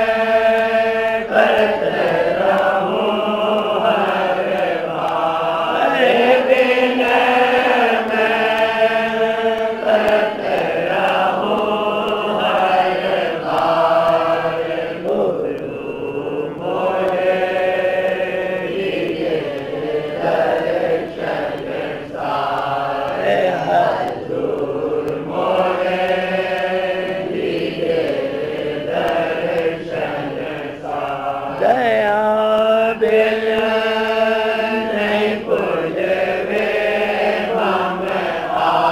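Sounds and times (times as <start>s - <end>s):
person singing a slow hymn: 0.0s - 38.9s.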